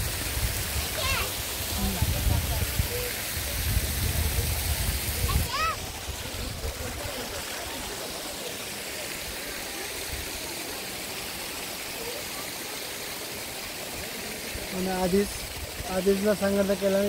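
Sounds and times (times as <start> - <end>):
rushing stream water: 0.0 - 17.0.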